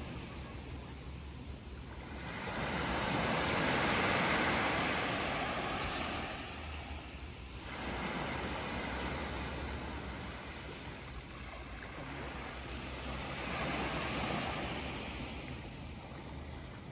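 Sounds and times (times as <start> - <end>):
low steady rumble: 0.0 - 16.9
waves breaking on sandy shore: 0.0 - 16.9.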